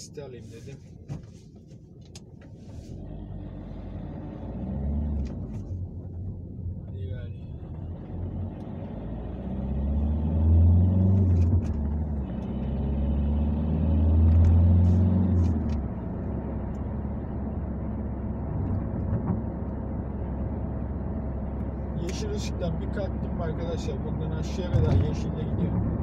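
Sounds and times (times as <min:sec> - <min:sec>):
car engine accelerating: 0:02.6 - 0:26.0.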